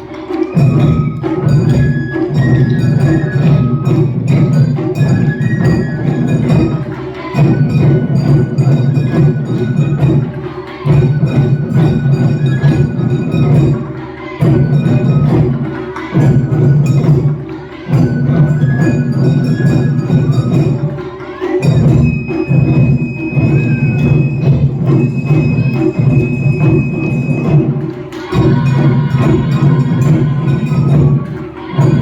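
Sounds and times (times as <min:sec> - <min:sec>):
high ringing tones: 0:00.0 - 0:32.0
taiko drums playing fast rhythm: 0:00.0 - 0:32.0.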